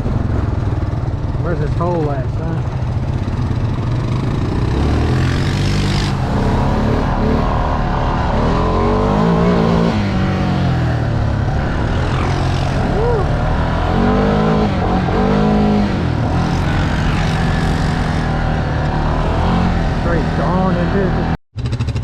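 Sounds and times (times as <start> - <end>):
off-road vehicle engine revving: 1.2 - 22.0.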